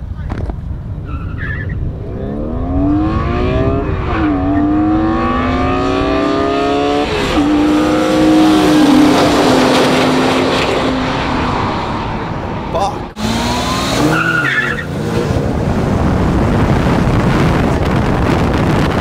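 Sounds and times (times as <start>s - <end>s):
car engines revving: 0.0s - 19.0s
tyre and wind noise: 0.0s - 19.0s.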